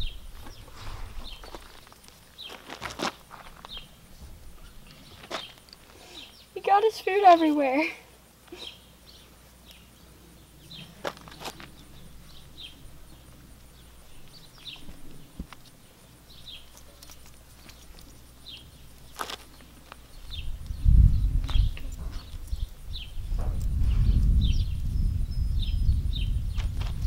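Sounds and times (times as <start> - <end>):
bird chirping: 0.0 - 2.7, 3.5 - 7.7, 8.5 - 26.8.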